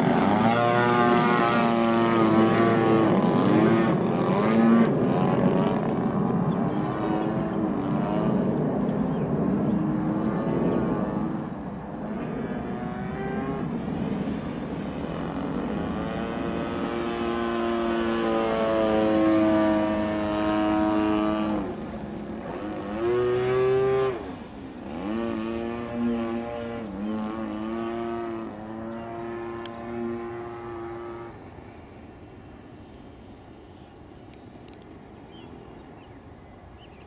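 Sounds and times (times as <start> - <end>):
model plane engine and propeller: 0.0 - 36.9.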